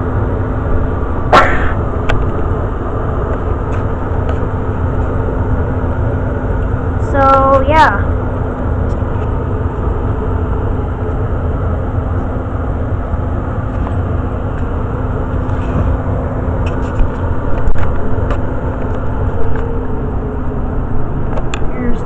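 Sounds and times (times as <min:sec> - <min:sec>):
furnace blower air rumble: 0:00.0 - 0:22.0.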